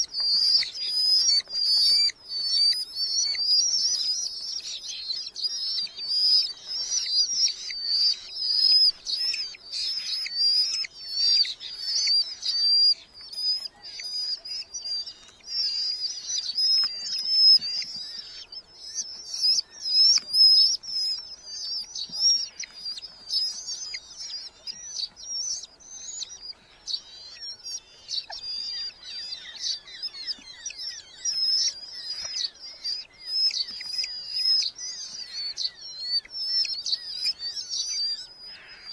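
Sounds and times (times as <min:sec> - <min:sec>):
falcons calling in chorus: 0:00.0 - 0:38.9.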